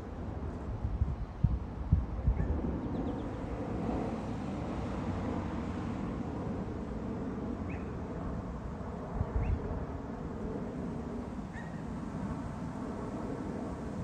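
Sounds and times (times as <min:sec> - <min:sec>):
distant jet aircraft rumble: 0:00.0 - 0:14.0.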